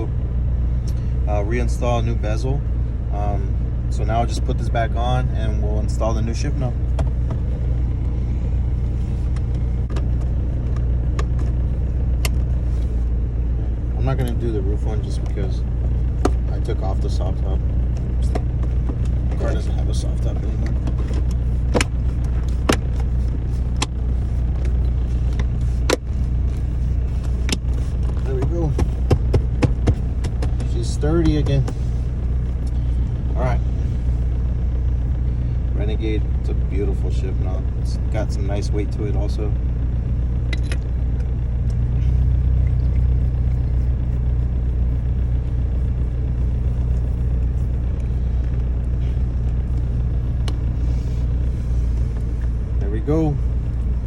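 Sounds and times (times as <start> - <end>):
steady low hum: 0.0 - 54.0
steady low rumble: 0.0 - 54.0.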